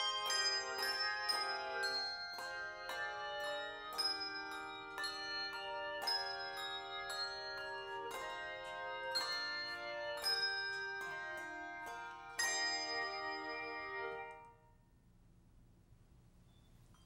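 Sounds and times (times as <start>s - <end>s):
handbell choir ringing chords: 0.0s - 14.6s.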